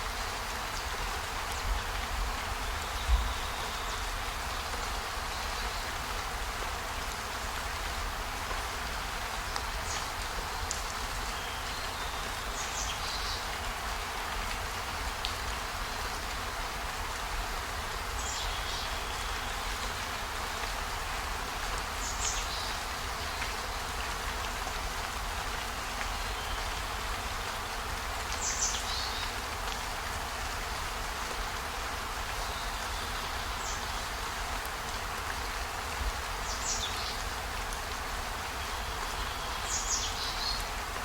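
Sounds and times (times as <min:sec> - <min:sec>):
rain-like hiss: 0:00.0 - 0:41.0.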